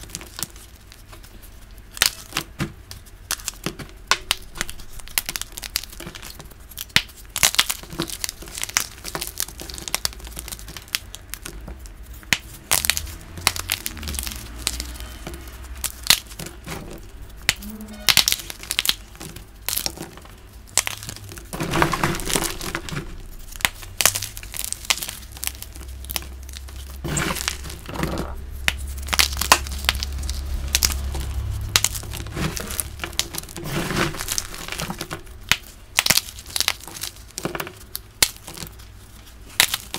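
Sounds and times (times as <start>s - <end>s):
chalk blocks crunching and snapping: 0.0s - 39.9s.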